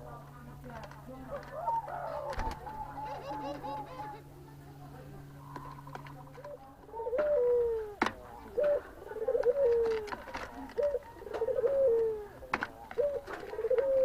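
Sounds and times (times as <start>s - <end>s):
dove cooing: 0.0s - 4.4s, 5.1s - 14.0s.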